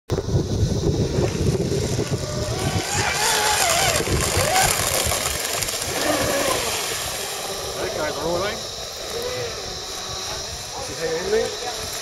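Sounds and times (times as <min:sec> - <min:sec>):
wind rumble on microphone: 0:00.1 - 0:12.0
model boat engine racing: 0:01.0 - 0:12.0.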